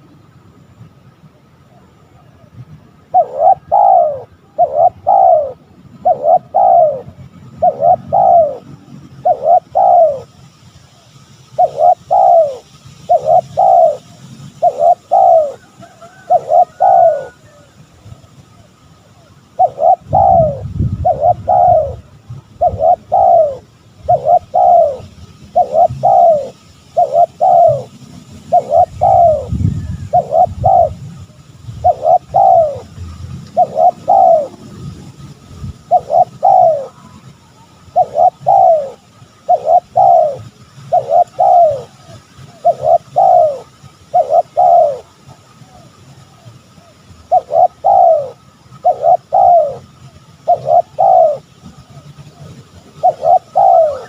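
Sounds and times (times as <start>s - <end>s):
dove cooing: 1.7s - 10.4s, 11.5s - 17.9s, 18.7s - 54.0s.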